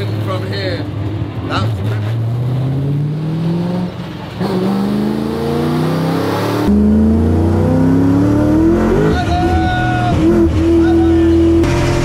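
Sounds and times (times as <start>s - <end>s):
car engine accelerating hard: 1.5s - 12.0s.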